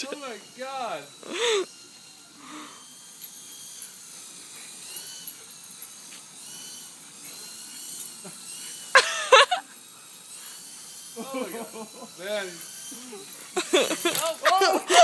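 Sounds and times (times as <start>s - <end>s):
toy helicopter motor whine: 0.0s - 15.0s.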